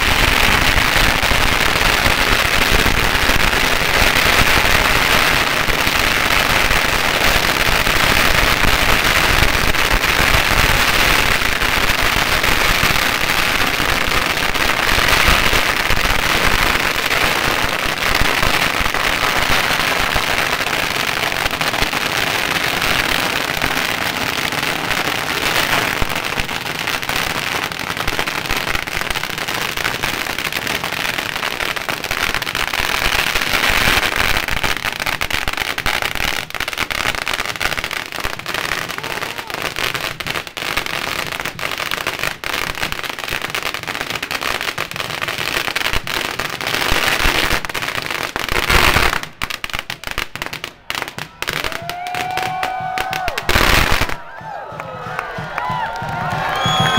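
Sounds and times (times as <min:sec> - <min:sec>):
scattered firecracker bangs: 0:00.0 - 0:46.6, 0:47.4 - 0:56.9
firecrackers popping rapidly: 0:00.0 - 0:56.9.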